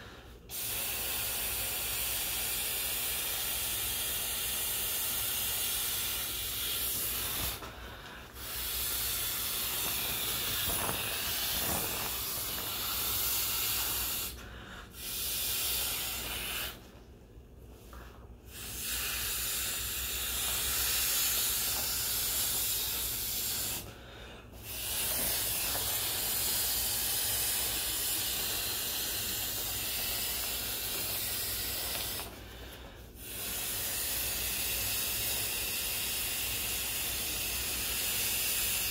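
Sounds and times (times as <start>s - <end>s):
breath blowing up inflatable ring: 0.0s - 16.9s, 17.8s - 38.9s.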